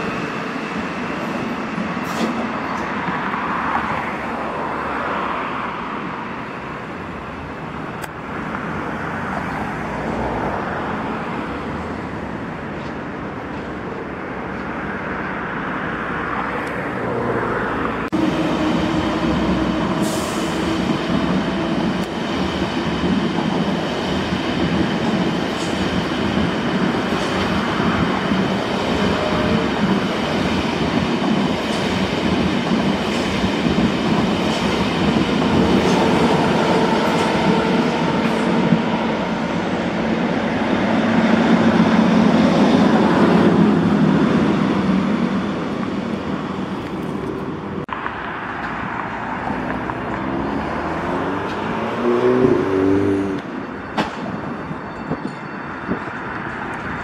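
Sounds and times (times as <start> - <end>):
train wheels on rails: 0.0 - 15.4, 17.8 - 57.0
freight train passing: 0.0 - 57.0.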